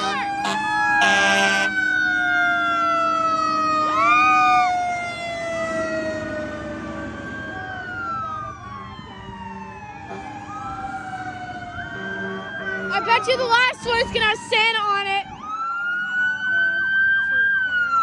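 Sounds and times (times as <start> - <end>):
fire truck sirens wailing: 0.0 - 18.0.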